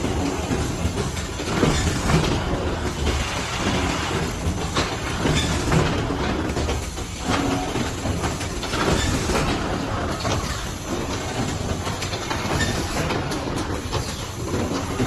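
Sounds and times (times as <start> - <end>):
box forming machine clattering: 0.0 - 15.0.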